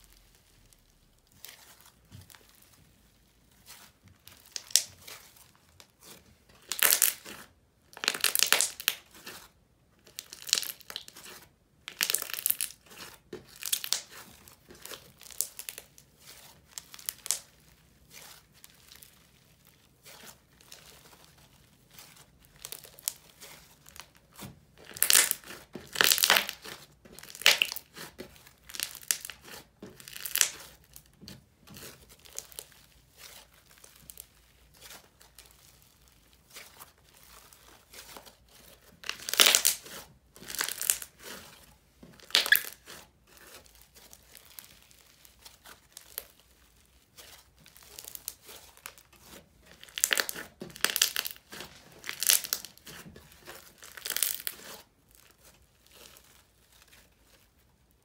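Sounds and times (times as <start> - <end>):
slime crackling when squished: 3.6 - 5.9, 6.6 - 9.4, 10.0 - 38.1, 39.0 - 41.5, 42.2 - 57.4.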